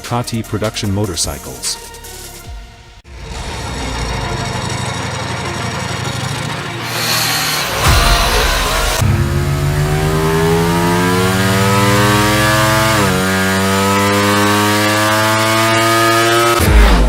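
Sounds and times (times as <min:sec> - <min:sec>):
motorcycle engine accelerating: 0:03.1 - 0:17.0.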